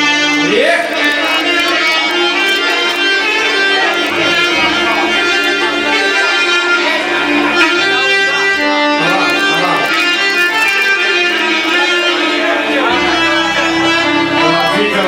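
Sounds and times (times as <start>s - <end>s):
plucked strings: 0.0s - 15.0s
reedy melody line: 0.0s - 15.0s.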